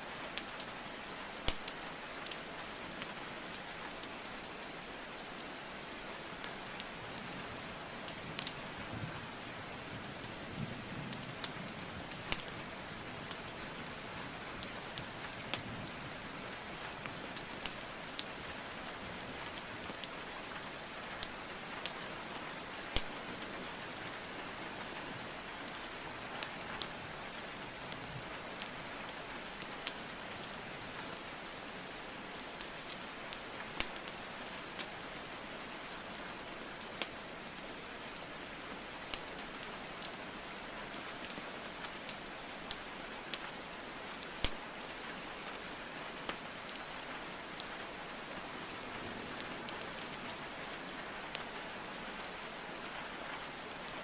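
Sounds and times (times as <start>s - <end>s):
steady rain hiss: 0.0s - 54.0s
wood fire crackling: 0.3s - 54.0s.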